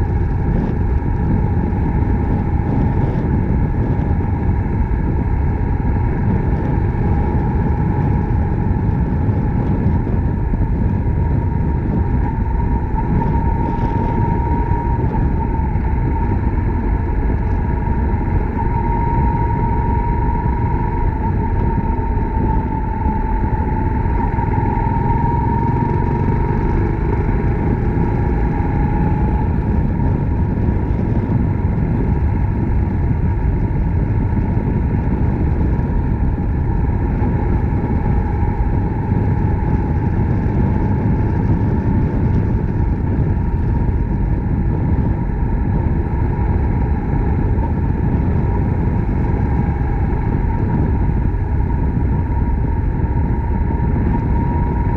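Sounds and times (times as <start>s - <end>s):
motorcycle engine running: 0.0s - 54.9s
road and wind noise: 0.0s - 54.9s.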